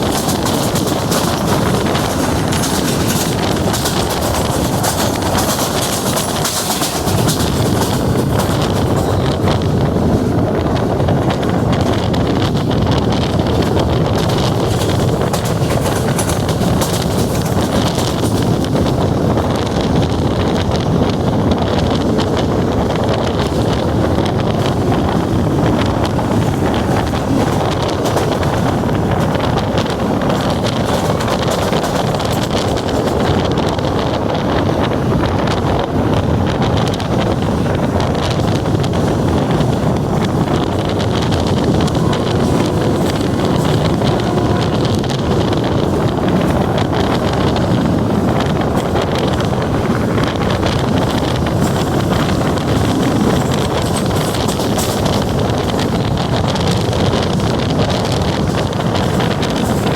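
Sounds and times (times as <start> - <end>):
passenger train running: 0.0 - 59.9
wind on microphone: 0.0 - 59.9.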